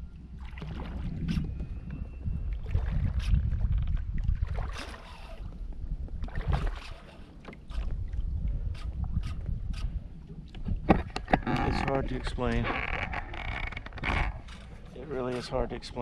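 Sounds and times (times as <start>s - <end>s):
water lapping against kayak hull: 0.0s - 16.0s
wind rumble on microphone: 0.0s - 16.0s.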